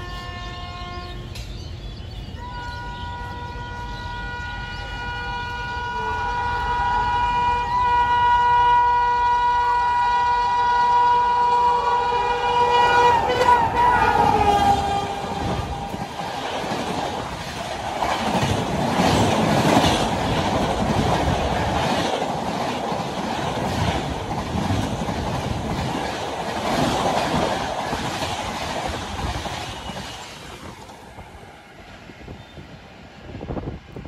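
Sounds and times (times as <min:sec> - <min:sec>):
train roaring past: 0:00.0 - 0:34.0.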